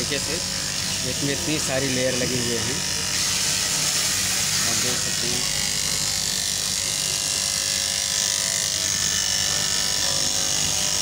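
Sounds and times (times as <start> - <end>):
fabric cutting machine running: 0.0 - 11.0.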